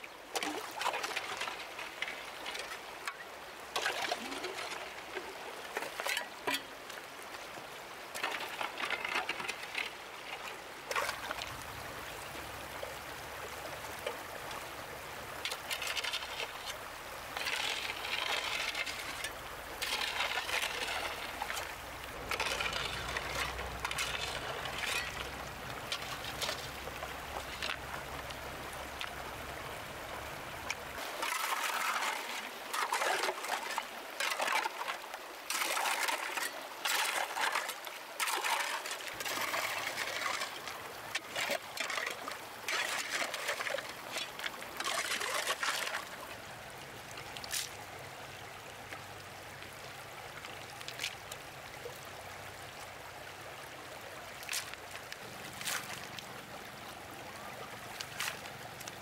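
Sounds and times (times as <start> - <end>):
stream water trickling: 0.0 - 59.0
water splashing surges: 0.0 - 59.0.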